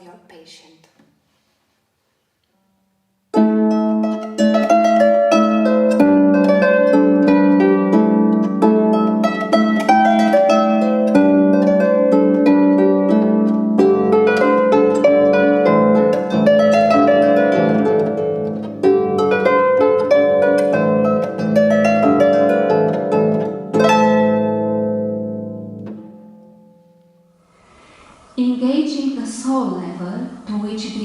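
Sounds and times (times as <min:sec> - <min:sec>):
harp playing folk tune: 0:03.3 - 0:28.2.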